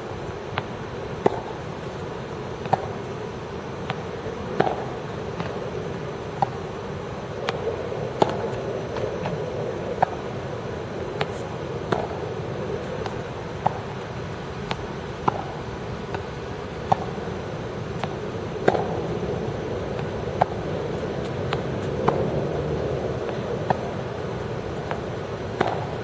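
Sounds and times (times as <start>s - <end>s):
steady background noise: 0.0s - 26.0s
tennis balls hit and bouncing: 0.5s - 2.0s, 2.6s - 3.1s, 3.8s - 26.0s.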